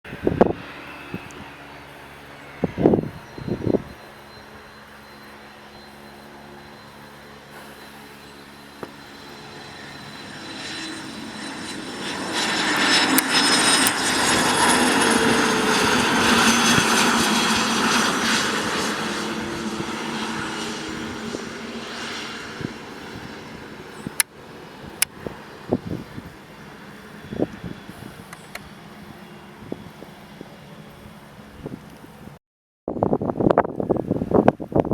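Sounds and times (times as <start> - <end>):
jet passing with engine whine: 0.1 - 32.4.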